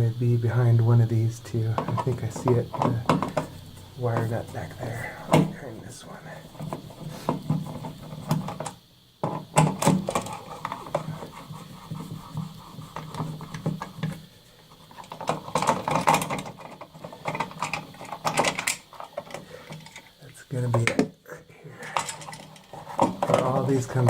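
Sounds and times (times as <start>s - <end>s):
wall outlet scraping and clicking: 1.6s - 5.6s, 6.5s - 20.2s, 21.8s - 24.0s.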